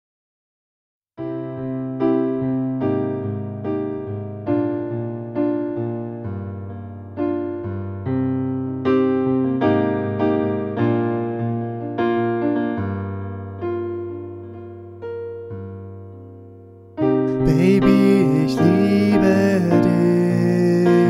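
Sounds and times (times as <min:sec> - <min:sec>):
solo piano chords: 0:01.2 - 0:21.0.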